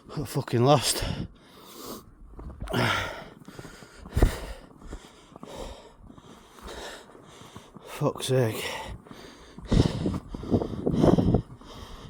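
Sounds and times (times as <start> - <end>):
man breathing hard: 1.0 - 2.1, 2.7 - 7.9, 8.6 - 12.0.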